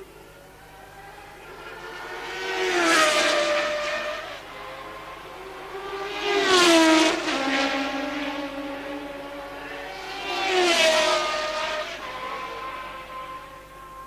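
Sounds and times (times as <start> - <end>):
racing cars passing: 0.0 - 14.0.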